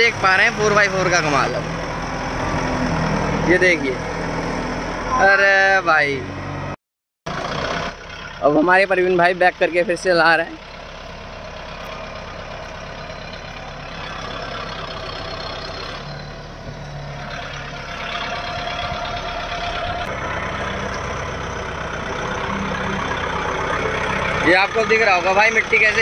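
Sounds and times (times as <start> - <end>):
tyres churning through mud: 0.0 - 5.1, 7.3 - 26.0
tractor diesel engine under load: 0.0 - 26.0.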